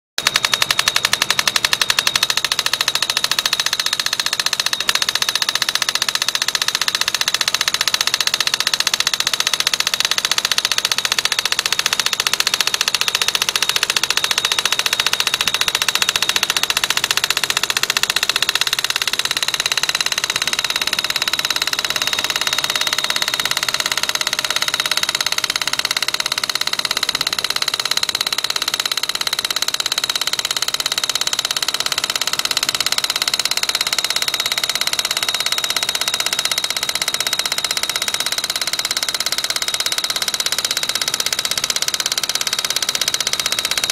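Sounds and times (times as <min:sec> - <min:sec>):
pneumatic drill hammering: 0:00.2 - 0:43.9.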